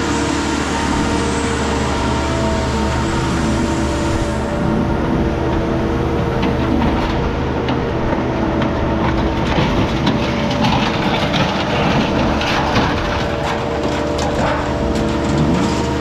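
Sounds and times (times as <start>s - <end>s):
heavy machinery engine drone: 0.0s - 16.0s.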